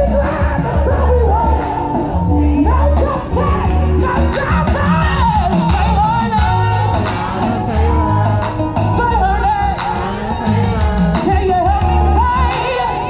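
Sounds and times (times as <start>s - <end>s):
band accompaniment: 0.0s - 13.0s
heavy bass notes: 0.0s - 13.0s.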